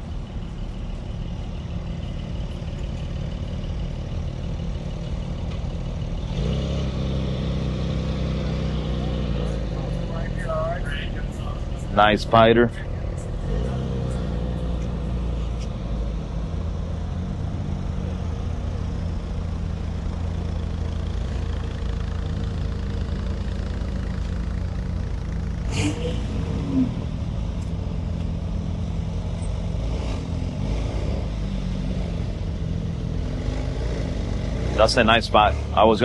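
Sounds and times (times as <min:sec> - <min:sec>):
car engine low rumble: 0:00.0 - 0:36.0.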